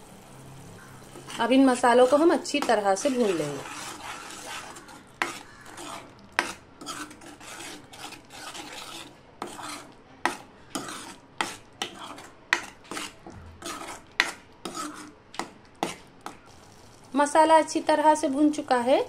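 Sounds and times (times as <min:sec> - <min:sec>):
metal spoon scraping pan: 0:01.0 - 0:16.8.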